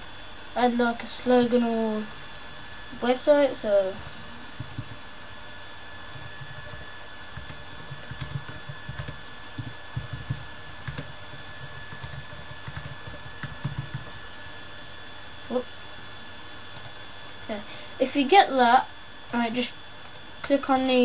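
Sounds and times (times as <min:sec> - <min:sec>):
faint electrical whine: 0:00.0 - 0:21.0.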